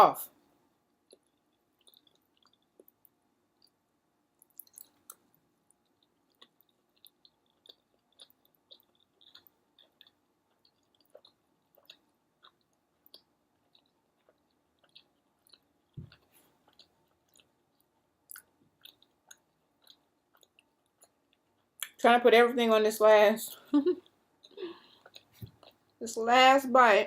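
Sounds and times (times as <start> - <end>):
faint wet chewing: 0.8 - 3.8, 4.4 - 22.0, 24.0 - 26.0.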